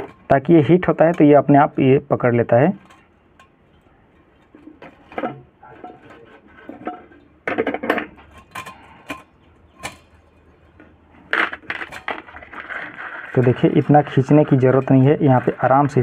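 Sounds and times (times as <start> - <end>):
wire rattling and scraping: 0.0 - 16.0.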